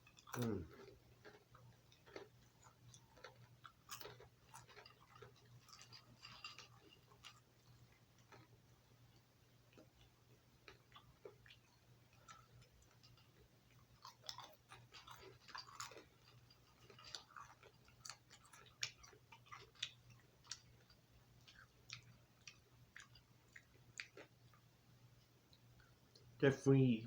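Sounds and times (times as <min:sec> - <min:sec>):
popcorn being chewed: 0:00.0 - 0:26.4.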